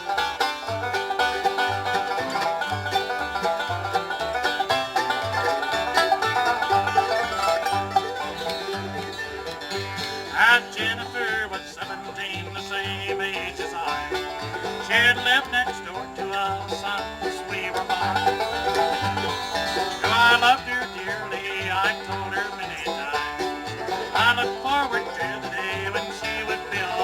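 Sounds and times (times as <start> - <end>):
banjo: 0.0 - 27.0
bass fiddle plucking low notes: 0.0 - 27.0
bluegrass band playing: 0.0 - 27.0.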